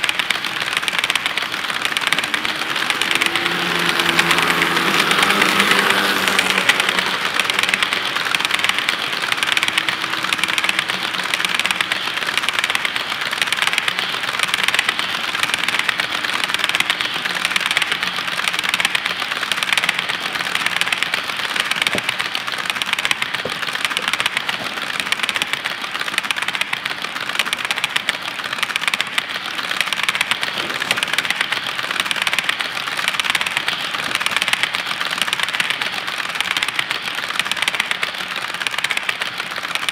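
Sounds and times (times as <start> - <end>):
model train wheels rattling on rail: 0.0 - 39.9.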